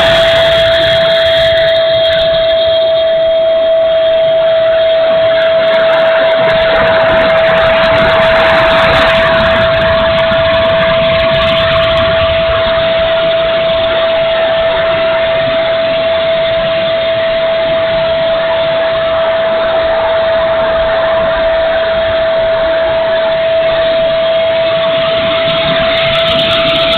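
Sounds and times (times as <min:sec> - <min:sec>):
electric ducted fan whine: 0:00.0 - 0:26.9
wind rumble on microphone: 0:00.0 - 0:26.9.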